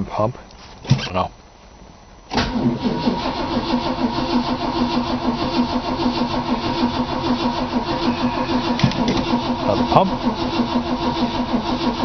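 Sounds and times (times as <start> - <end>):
car starter cranking: 2.3 - 12.0.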